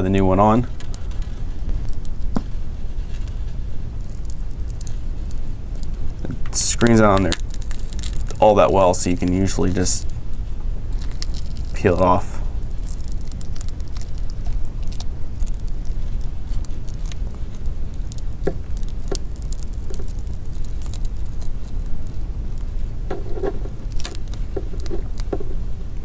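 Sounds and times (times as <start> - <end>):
steady low hum: 0.0 - 26.0
small clicks and crackles: 0.6 - 25.6.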